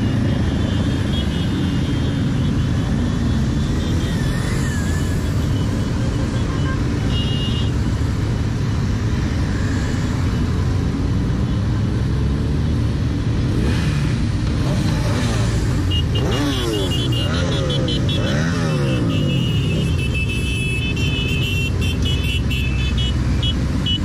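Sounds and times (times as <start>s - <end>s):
group of motorcycle engines: 0.0s - 24.0s.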